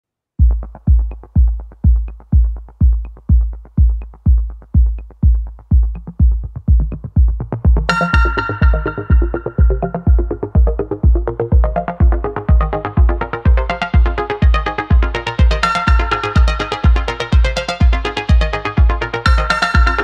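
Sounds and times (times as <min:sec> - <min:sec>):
kick drum beat: 0:00.4 - 0:20.0
synth chords: 0:00.4 - 0:20.0.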